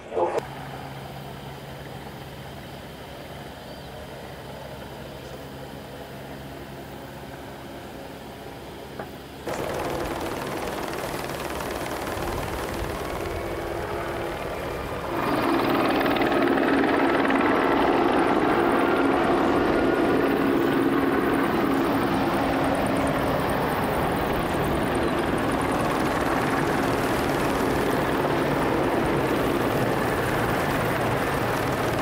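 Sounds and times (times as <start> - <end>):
aircraft engine noise: 0.0 - 32.0.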